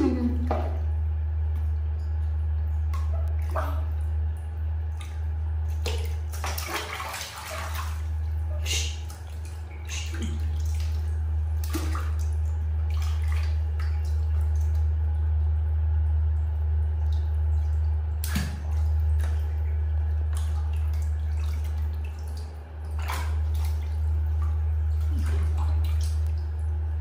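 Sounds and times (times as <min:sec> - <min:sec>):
steady low hum: 0:00.0 - 0:27.0
water splashing in a plastic tub: 0:00.0 - 0:27.0.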